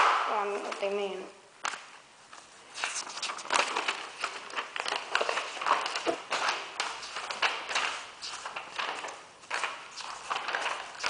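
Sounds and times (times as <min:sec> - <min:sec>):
paper rustling and crackling: 0:01.6 - 0:11.0.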